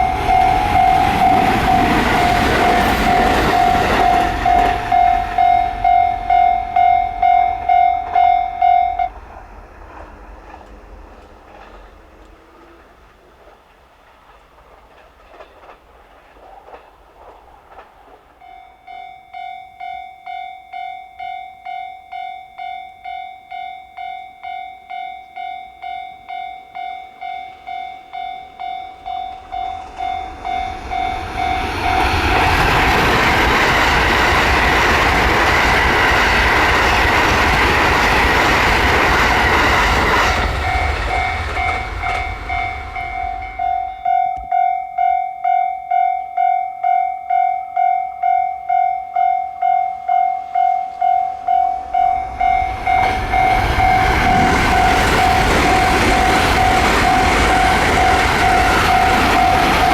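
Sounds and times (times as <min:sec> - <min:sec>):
level crossing warning bell: 0:00.0 - 0:09.2, 0:18.3 - 0:59.9
train passing: 0:00.0 - 0:59.9.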